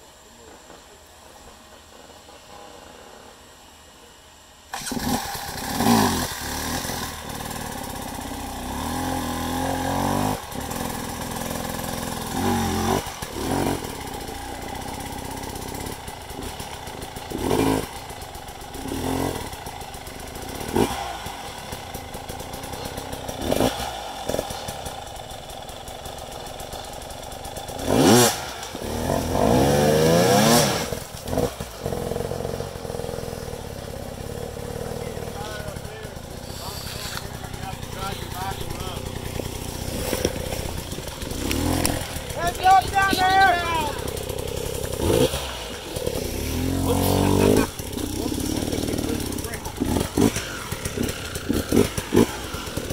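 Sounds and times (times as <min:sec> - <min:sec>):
dirt bike engine revving: 0:04.7 - 0:52.9.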